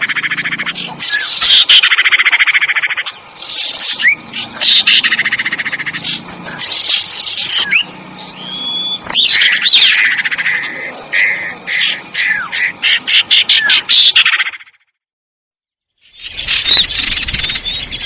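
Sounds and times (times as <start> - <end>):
small songbirds chattering and chirping: 0.0 - 14.8, 16.0 - 18.0.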